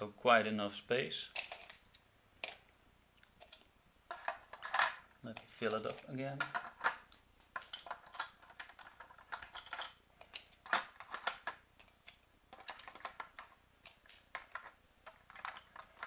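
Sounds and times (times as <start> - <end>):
plastic pieces clicking: 1.3 - 16.0.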